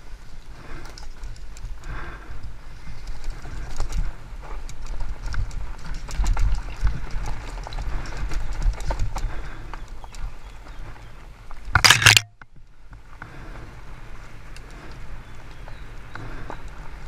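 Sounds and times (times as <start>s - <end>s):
bike rattling over stones: 0.0s - 17.0s
bike tyres rumbling on dirt: 0.0s - 17.0s.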